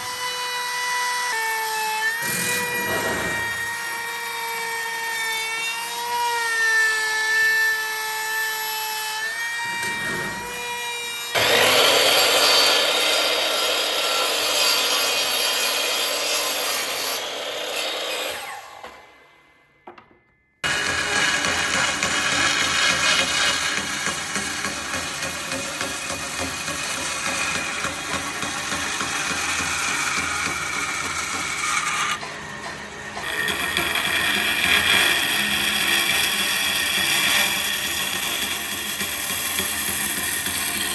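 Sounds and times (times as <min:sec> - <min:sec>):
tool cutting into wood: 0:01.2 - 0:05.7, 0:06.7 - 0:19.0, 0:20.6 - 0:40.9
power tool motor whining: 0:01.2 - 0:19.2, 0:20.6 - 0:36.5.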